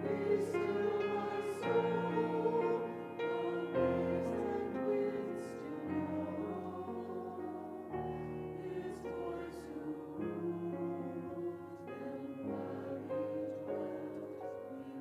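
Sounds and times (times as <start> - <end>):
slow choral church music: 0.0 - 15.0.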